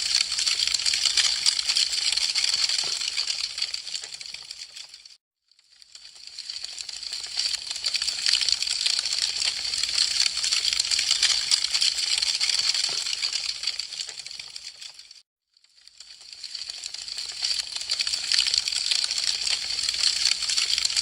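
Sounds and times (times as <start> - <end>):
burning wood crackling and popping: 0.0 - 5.1, 5.8 - 15.2, 15.8 - 21.0.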